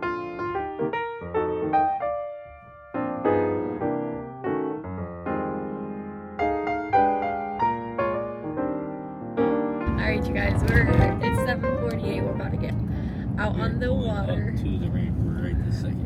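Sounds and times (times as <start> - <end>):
piano tune: 0.0 - 14.5.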